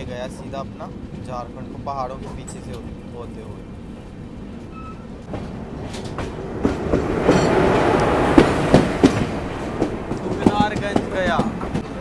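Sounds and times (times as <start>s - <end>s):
wheel clacks over rail joints: 0.0s - 3.3s, 4.6s - 12.0s
passing train rush: 0.0s - 12.0s.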